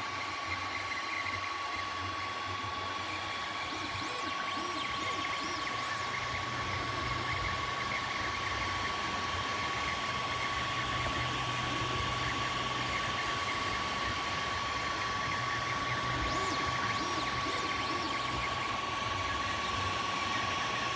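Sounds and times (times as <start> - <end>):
fan and motor hum: 0.0 - 20.9.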